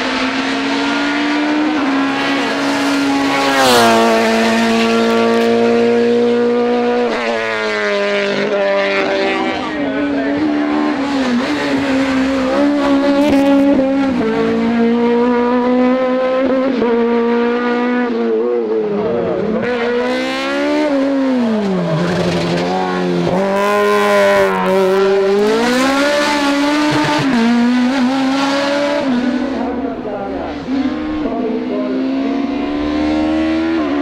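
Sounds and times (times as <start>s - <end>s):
race car engines at full throttle: 0.0s - 34.0s.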